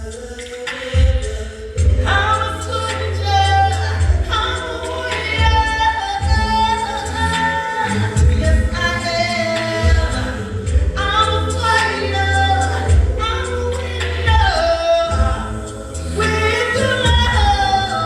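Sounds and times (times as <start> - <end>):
gospel singing: 0.0 - 18.0
steady low bass: 1.0 - 18.0.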